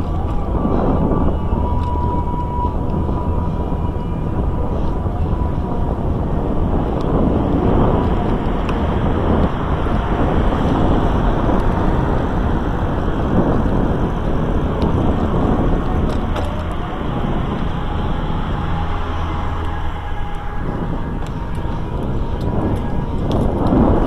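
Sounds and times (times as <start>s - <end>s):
car passing: 0.0s - 24.0s
wind buffeting microphone: 0.0s - 24.0s.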